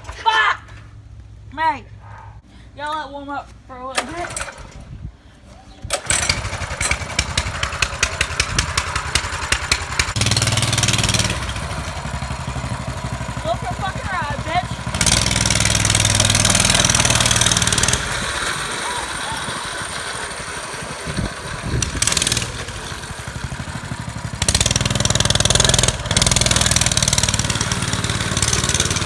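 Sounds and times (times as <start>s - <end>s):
mini bike engine: 4.0s - 4.8s, 5.9s - 29.0s.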